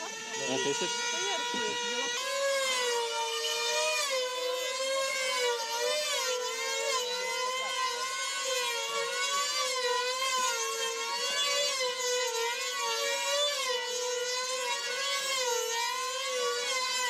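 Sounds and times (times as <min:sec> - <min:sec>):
model plane engines whining: 0:00.0 - 0:17.0.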